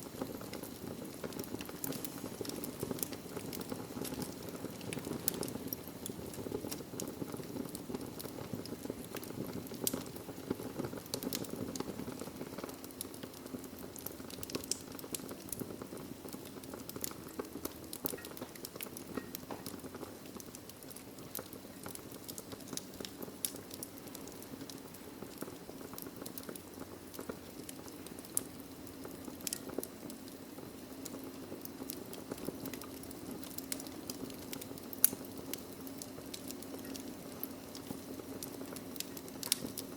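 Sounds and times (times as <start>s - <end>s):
fire crackles and pops: 0.0s - 39.9s
fire flames rushing: 0.0s - 39.9s.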